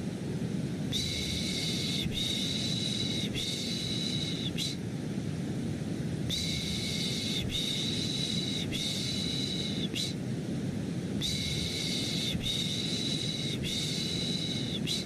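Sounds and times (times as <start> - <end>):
low white noise rumble: 0.0 - 15.0.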